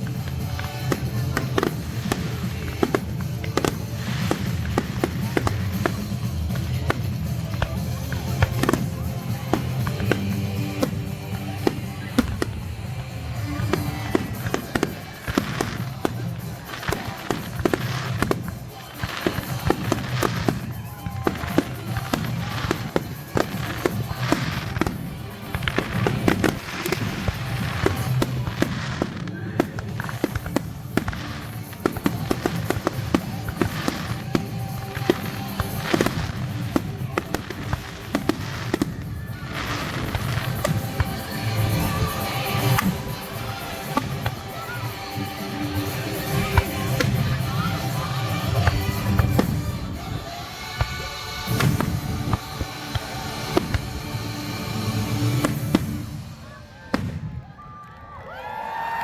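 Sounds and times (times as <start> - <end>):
music: 0.0 - 56.6
fireworks bangs and crackles: 0.0 - 59.0.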